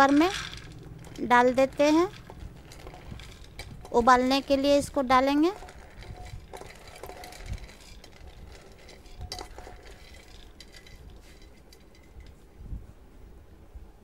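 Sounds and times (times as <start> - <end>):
corn kernels pattering on metal: 0.0 - 12.4.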